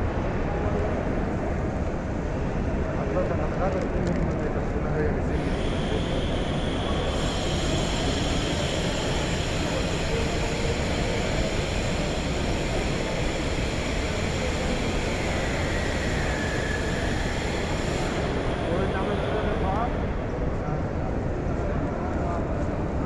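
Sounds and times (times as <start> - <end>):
crowd hubbub in large hall: 0.0 - 23.0.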